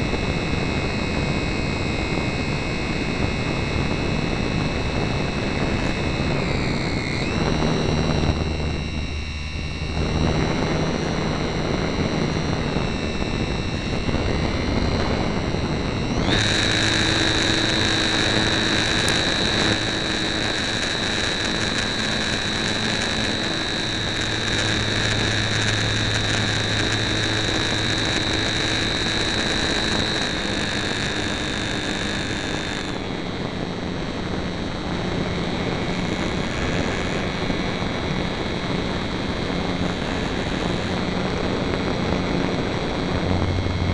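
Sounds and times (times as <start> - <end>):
electric motor and propeller whining: 0.0 - 43.9.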